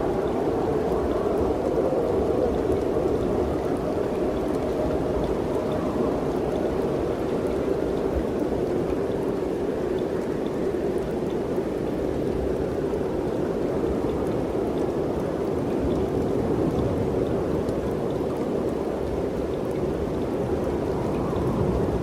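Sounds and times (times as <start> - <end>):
wind blowing steadily: 0.0 - 22.0.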